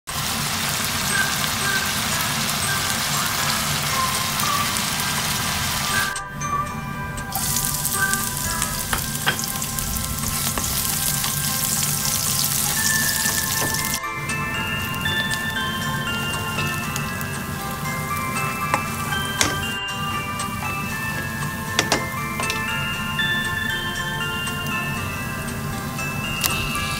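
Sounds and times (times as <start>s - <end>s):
food sizzling in a wok: 0.1s - 6.2s, 7.3s - 26.9s
light background music: 0.5s - 26.9s.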